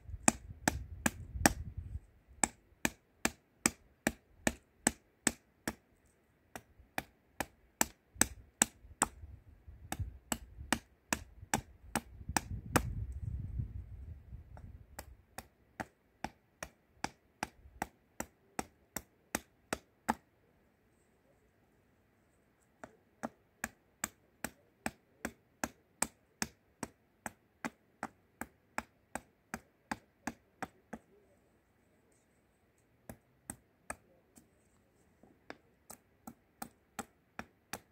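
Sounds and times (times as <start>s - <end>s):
hatchet chopping wood: 0.1s - 13.6s, 14.5s - 20.3s, 22.8s - 31.3s, 33.0s - 34.4s, 35.4s - 37.9s.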